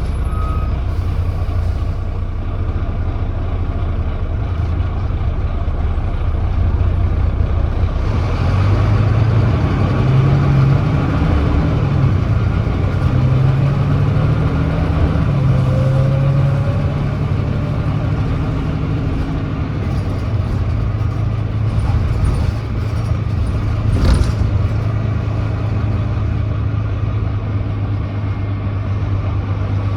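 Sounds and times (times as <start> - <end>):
bus diesel engine accelerating: 0.0 - 29.9.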